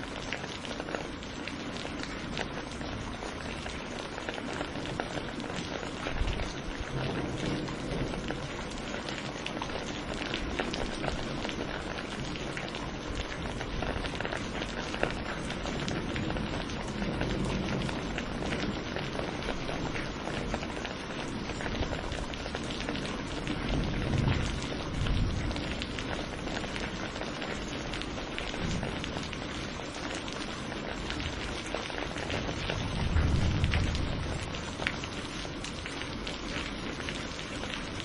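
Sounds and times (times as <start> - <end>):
raindrops ticking on surface: 0.0 - 38.0
steady rain falling: 0.0 - 38.0.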